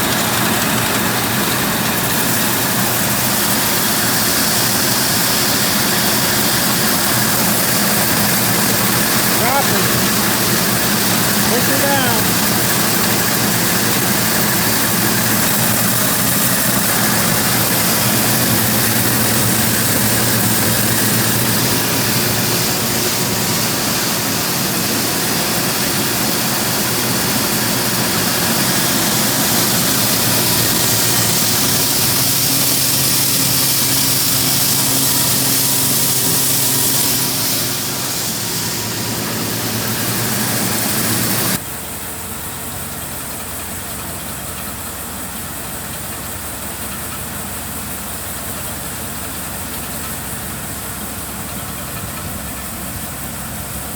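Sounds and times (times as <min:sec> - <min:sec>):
tractor driven grain grinder drone: 0:00.0 - 0:53.9.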